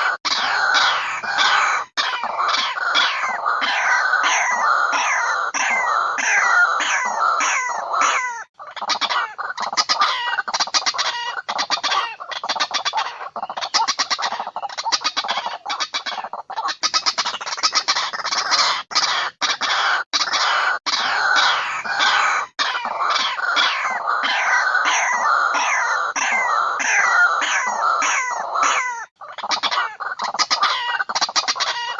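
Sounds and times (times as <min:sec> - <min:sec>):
bird calls played back: 0:00.0 - 0:31.9.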